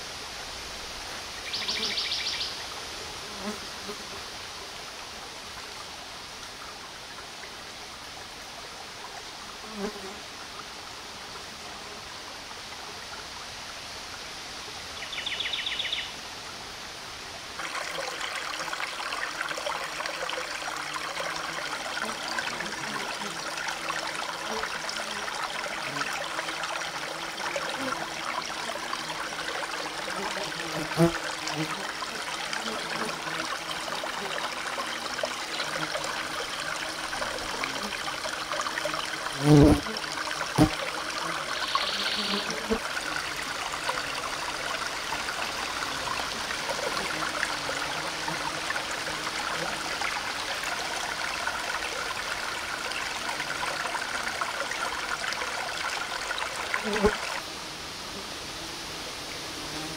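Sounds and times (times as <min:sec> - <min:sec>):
forest stream running: 0:00.0 - 0:59.9.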